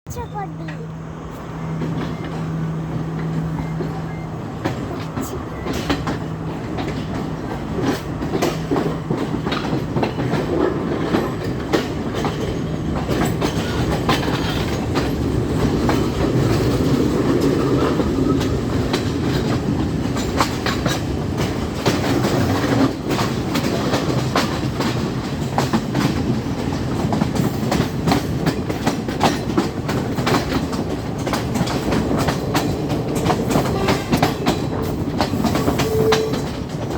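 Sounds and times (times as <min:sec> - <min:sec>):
train running noise: 0:00.1 - 0:36.9
train wheels clacking on rails: 0:00.1 - 0:36.9.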